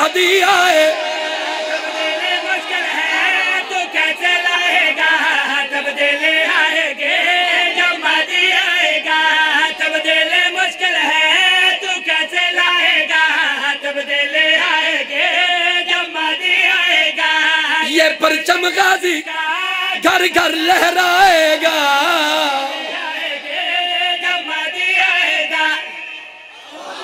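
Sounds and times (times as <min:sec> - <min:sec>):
men chanting through microphones: 0:00.0 - 0:27.0.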